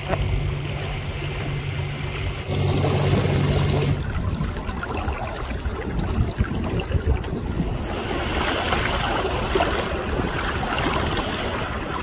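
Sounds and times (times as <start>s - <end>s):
motorboat motor hum: 0.0s - 12.0s
water lapping: 0.0s - 12.0s
water rushing along hull: 0.0s - 12.0s
wind on microphone: 0.4s - 12.0s.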